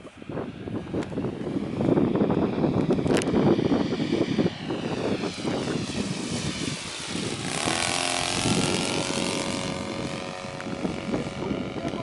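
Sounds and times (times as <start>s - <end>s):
model plane engine running: 0.0s - 12.0s.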